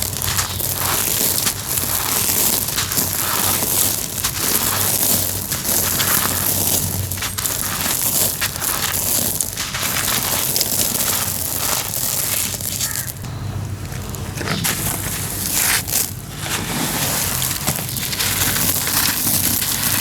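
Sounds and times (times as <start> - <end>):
cement pieces crunching: 0.0 - 20.0.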